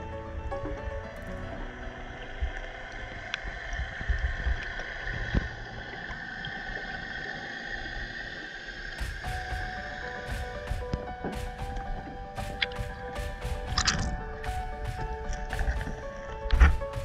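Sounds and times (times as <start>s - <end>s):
underwater low rumbling: 0.0s - 17.0s.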